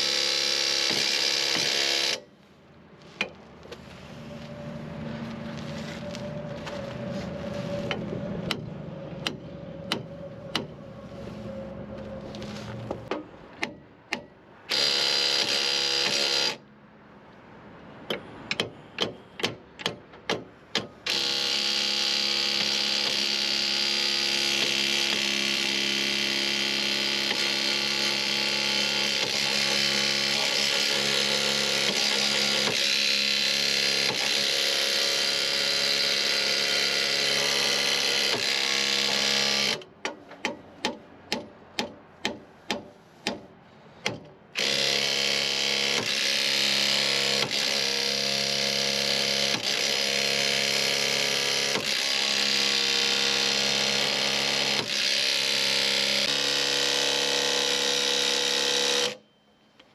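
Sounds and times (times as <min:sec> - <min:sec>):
impact wrench hammering: 0:00.0 - 0:02.3, 0:07.9 - 0:10.7, 0:13.1 - 0:16.6, 0:18.1 - 0:59.2.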